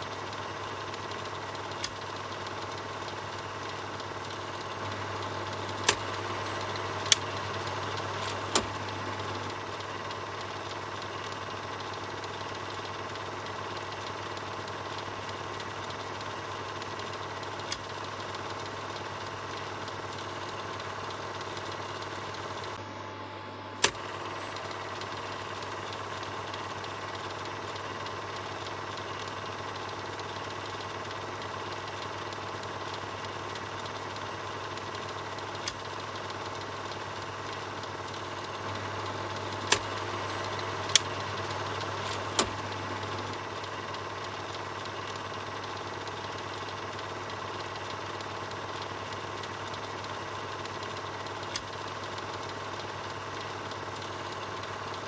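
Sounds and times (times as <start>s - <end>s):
film projector whirring: 0.0s - 55.0s
sharp clicks: 0.4s - 22.8s, 23.8s - 55.0s.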